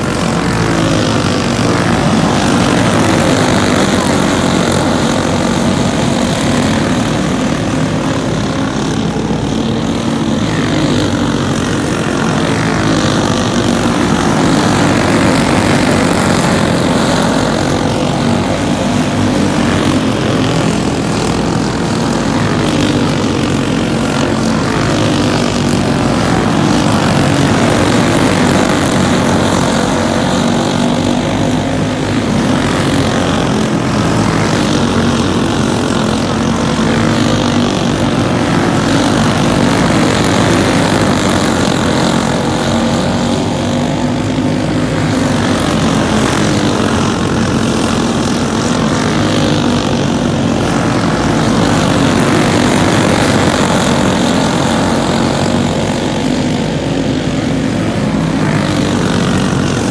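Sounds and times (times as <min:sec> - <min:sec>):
go-kart engines racing: 0:00.0 - 0:59.9.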